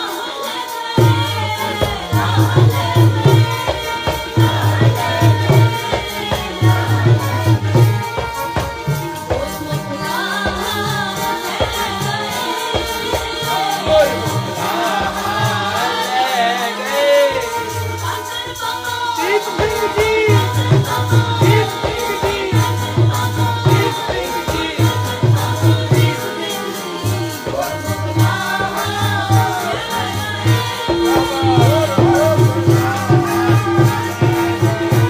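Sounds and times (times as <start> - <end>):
harmonium chords: 0.0 - 35.0
tabla drumming: 0.0 - 35.0
woman singing: 0.0 - 35.0.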